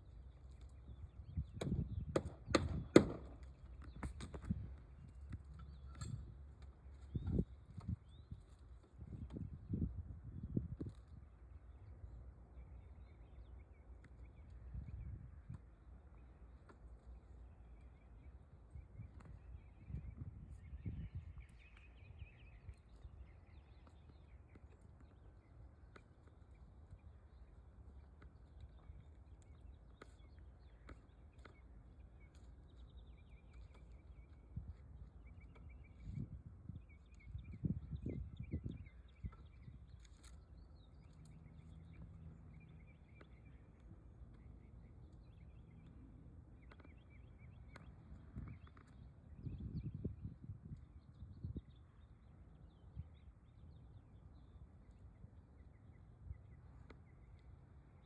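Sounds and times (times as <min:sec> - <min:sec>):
faint bird chirping: 0:10.8 - 0:58.0.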